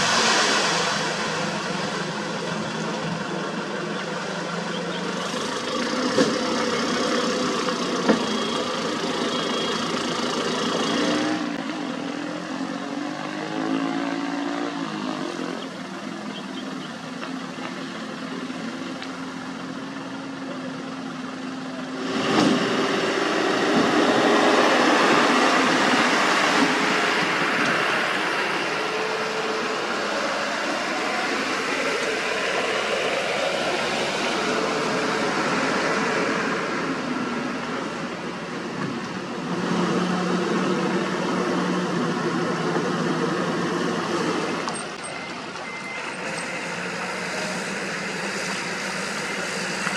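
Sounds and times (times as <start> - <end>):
road-paving machinery running: 0.0 - 49.9.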